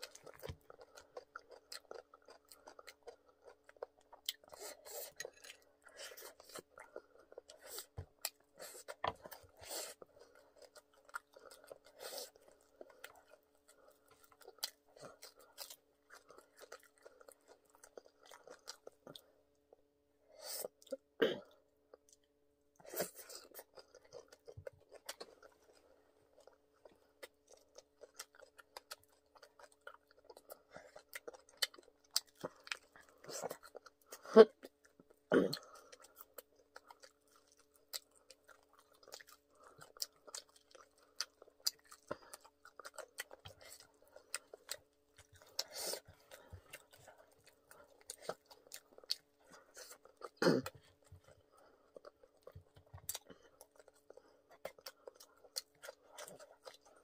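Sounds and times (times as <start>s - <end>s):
chewing crispy chicken: 0.0s - 57.0s
faint steady hum: 0.0s - 57.0s.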